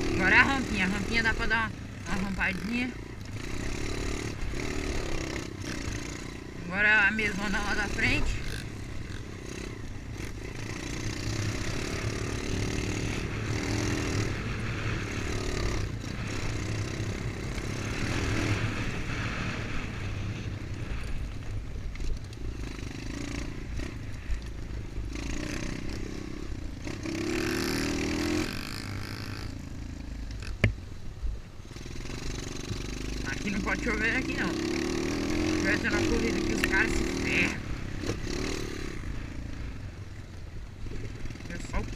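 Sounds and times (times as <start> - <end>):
dirt bike engine revving: 0.0 - 30.7, 31.6 - 41.9
steady rush of noise: 0.0 - 41.9.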